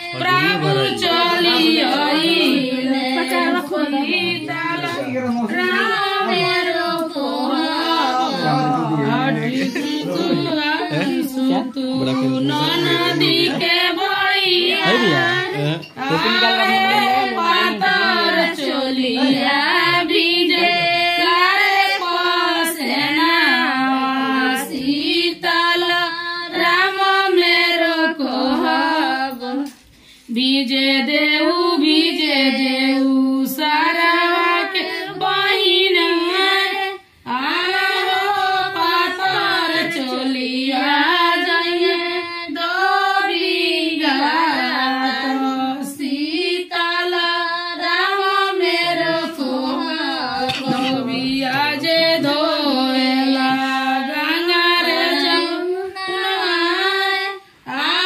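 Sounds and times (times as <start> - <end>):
high voices singing: 0.0 - 26.0, 31.8 - 58.0.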